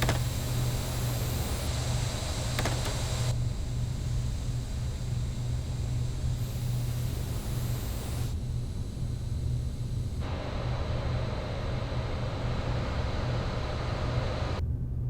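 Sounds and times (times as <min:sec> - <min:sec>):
vacuum cleaner running: 0:00.0 - 0:14.6.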